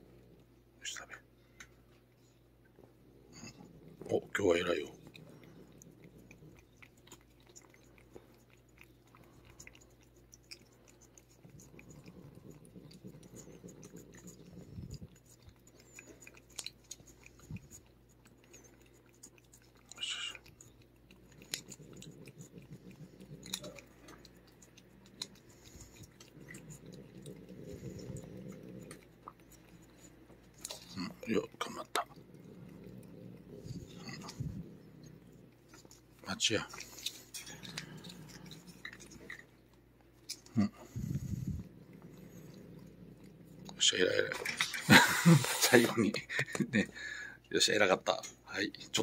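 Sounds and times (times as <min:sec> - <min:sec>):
cat licking and lapping: 0:00.1 - 0:49.0.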